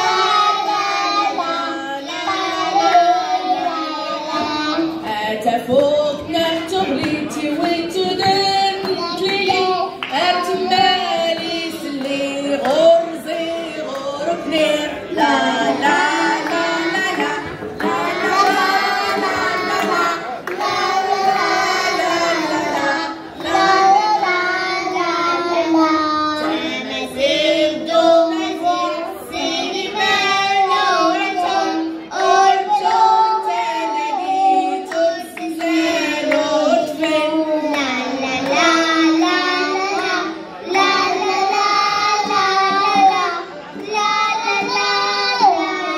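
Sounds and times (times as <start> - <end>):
children singing together: 0.0 - 45.9.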